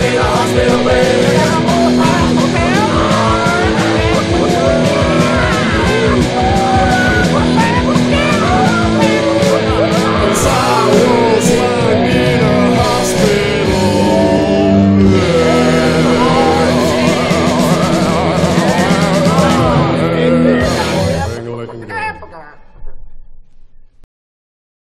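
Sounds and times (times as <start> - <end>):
fast steady drumbeat: 0.0 - 21.4
electric guitar: 0.0 - 21.5
person singing: 0.0 - 21.7
rock band music: 0.0 - 22.2.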